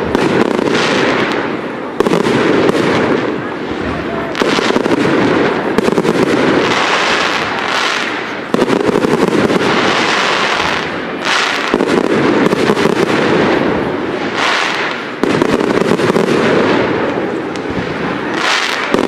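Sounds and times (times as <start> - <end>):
fireworks crackling: 0.0 - 19.0
fireworks salvos bursting: 0.0 - 19.0.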